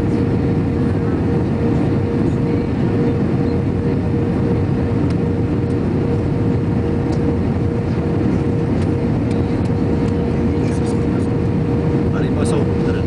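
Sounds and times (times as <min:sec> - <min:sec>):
jet airliner engine and airflow: 0:00.0 - 0:13.0
mid-pitched hum: 0:00.0 - 0:13.0.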